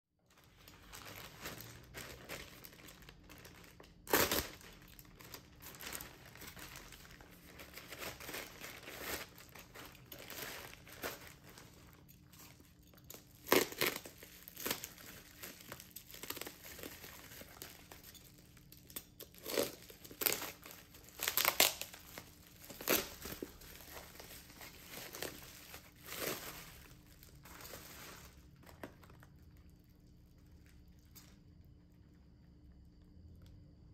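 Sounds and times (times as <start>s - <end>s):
plastic bag crinkling: 0.2s - 31.5s.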